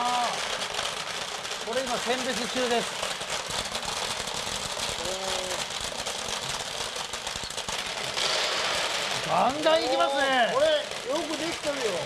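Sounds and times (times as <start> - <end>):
beans rattling through a sorter: 0.0 - 12.0.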